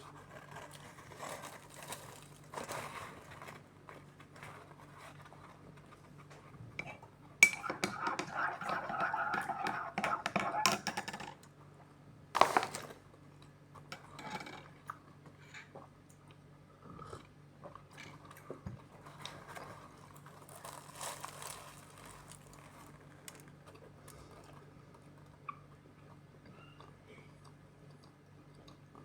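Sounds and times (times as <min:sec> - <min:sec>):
chewing and crunching food: 0:00.0 - 0:10.6, 0:11.4 - 0:29.0.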